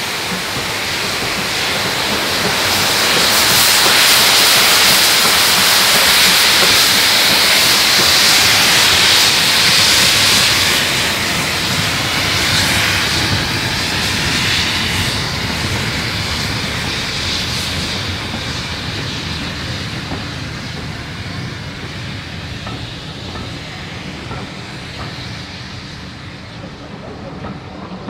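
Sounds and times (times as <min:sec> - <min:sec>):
steam locomotive hissing: 0:00.0 - 0:28.0
train rumbling: 0:00.0 - 0:28.0.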